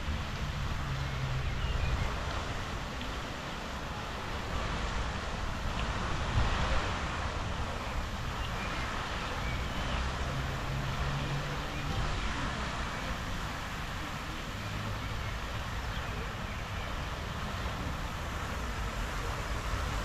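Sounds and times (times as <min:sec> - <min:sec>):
fountain splashing into lake: 0:00.0 - 0:20.0.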